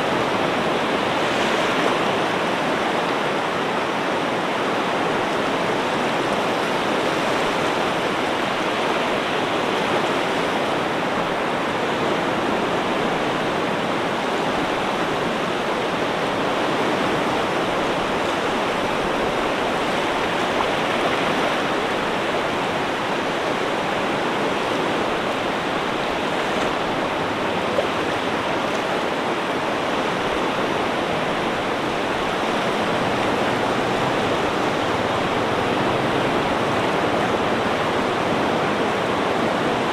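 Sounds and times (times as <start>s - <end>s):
ocean surf rushing: 0.0s - 39.9s.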